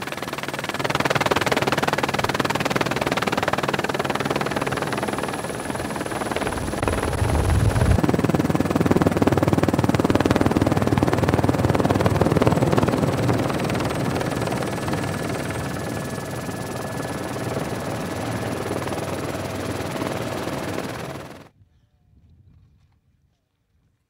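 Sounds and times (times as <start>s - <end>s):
helicopter rotor and engine: 0.0s - 21.5s.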